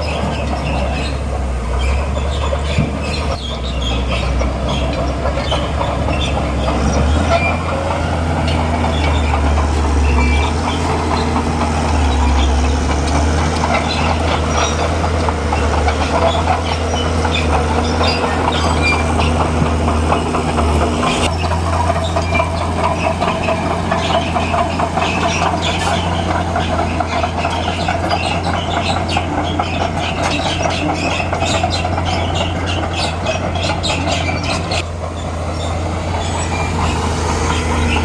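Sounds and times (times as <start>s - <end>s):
diesel engine droning: 0.0s - 38.0s
steel tracks clanking and squealing: 0.0s - 38.0s.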